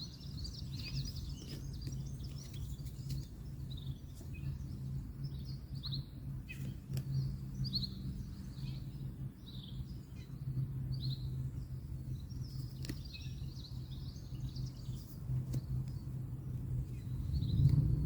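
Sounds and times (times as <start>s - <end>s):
distant road noise: 0.0s - 18.0s
small birds chirping: 0.0s - 18.0s.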